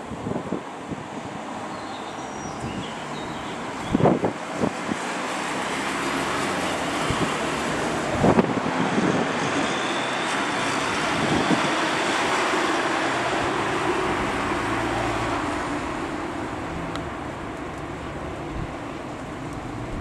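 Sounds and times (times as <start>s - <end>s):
road traffic: 0.0s - 20.0s
wind: 0.0s - 20.0s.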